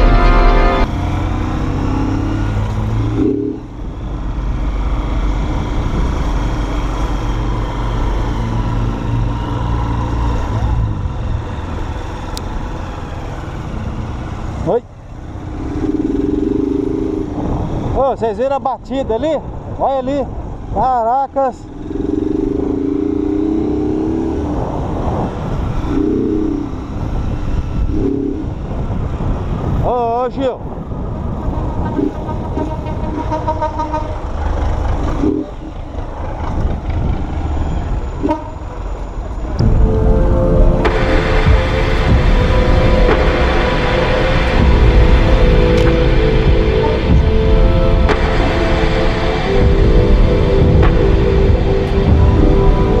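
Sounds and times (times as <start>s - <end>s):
wind and road noise: 0.0s - 53.0s.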